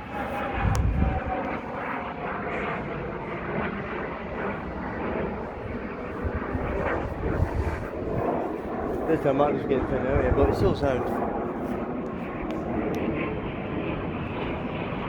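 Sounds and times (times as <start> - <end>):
airplane flying overhead: 0.0 - 15.0
wind buffeting microphone: 0.0 - 15.0.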